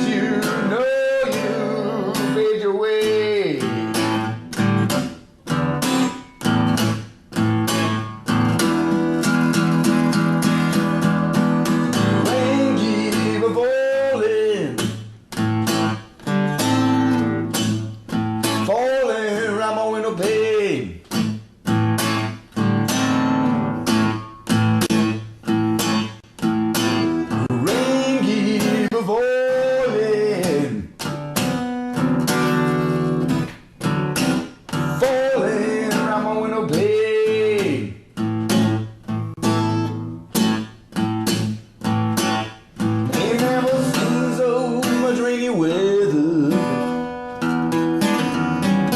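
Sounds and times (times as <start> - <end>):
acoustic guitar blues: 0.0 - 48.9.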